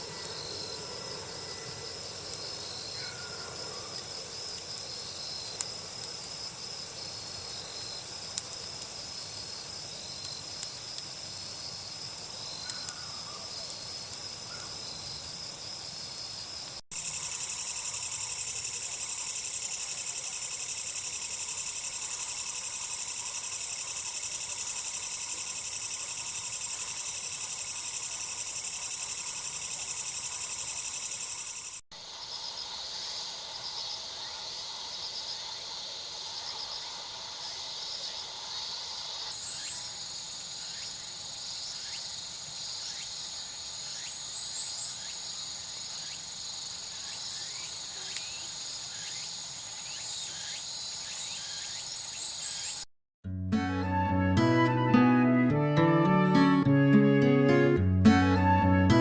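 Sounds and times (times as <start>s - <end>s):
insect chirping: 0.0s - 52.9s
insects trilling: 0.0s - 52.9s.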